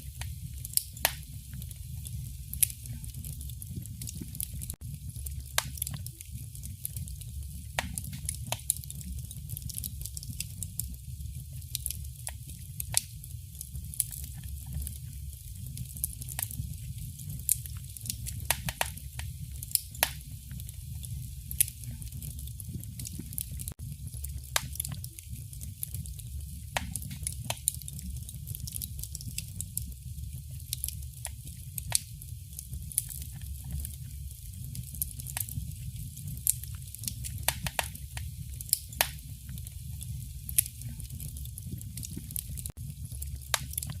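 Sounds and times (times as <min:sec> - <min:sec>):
fire crackling and popping: 0:00.0 - 0:44.0
low fire rumble: 0:00.0 - 0:44.0
soft fire hiss: 0:00.0 - 0:44.0.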